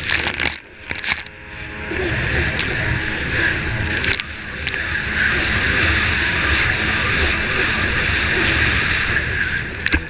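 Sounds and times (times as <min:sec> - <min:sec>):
jet ski engine at full speed: 0:00.0 - 0:10.0.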